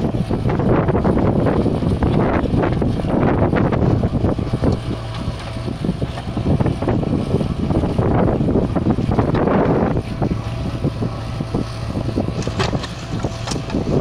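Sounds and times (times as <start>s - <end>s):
diesel engine under load: 0.0s - 14.0s
wind buffeting microphone: 0.0s - 14.0s.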